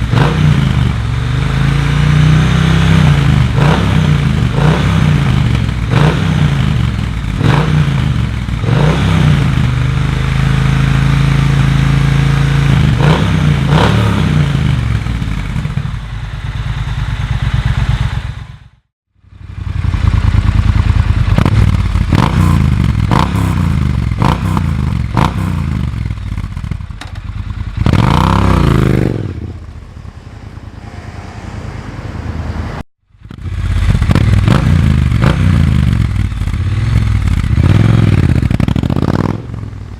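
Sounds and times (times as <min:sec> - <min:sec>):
motorcycle engine revving: 0:00.0 - 0:30.6, 0:33.1 - 0:39.9.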